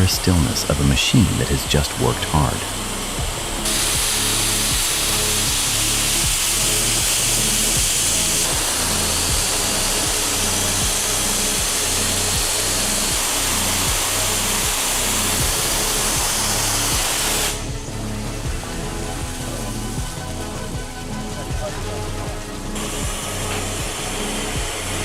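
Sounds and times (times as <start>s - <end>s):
background music with beat: 0.0s - 25.0s
steam locomotive hissing: 0.0s - 25.0s.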